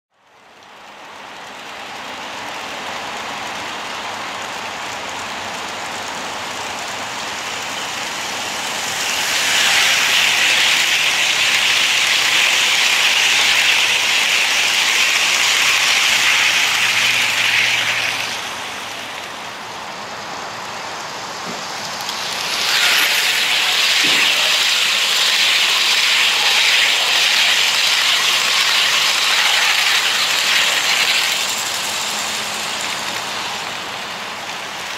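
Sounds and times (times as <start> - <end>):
model train wheels rolling: 0.2 - 34.9.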